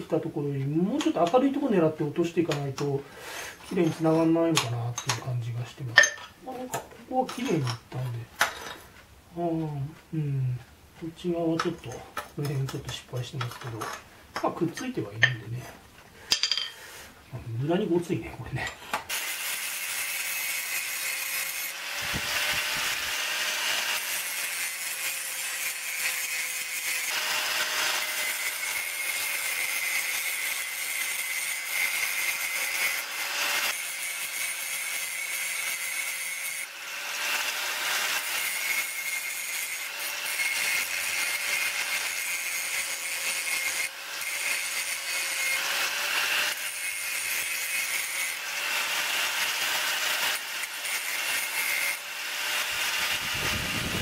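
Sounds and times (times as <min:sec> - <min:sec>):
angle grinder grinding steel: 0:00.0 - 0:08.8, 0:18.6 - 0:54.0.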